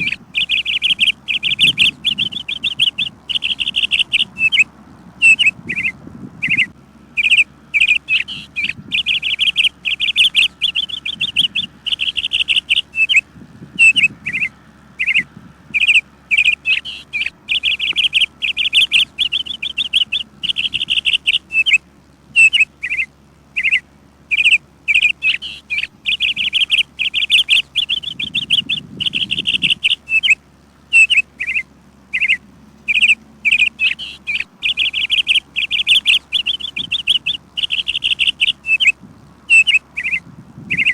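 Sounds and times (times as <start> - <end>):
songbird chirping and trilling: 0.0 - 40.9.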